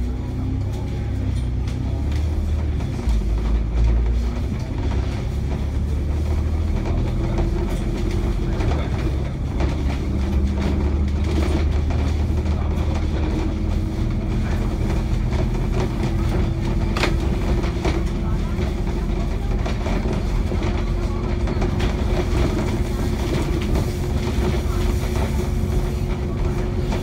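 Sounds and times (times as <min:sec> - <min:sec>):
bus engine and road drone: 0:00.0 - 0:27.0.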